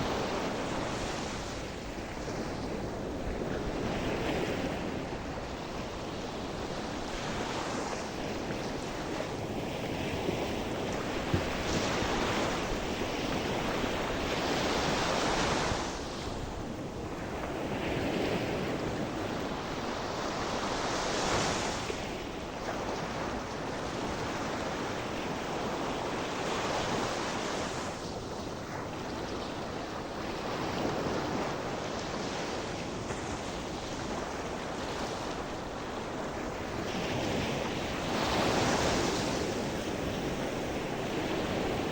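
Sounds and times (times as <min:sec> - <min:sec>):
sea waves breaking on shore: 0:00.0 - 0:41.9
wind on microphone: 0:00.0 - 0:41.9.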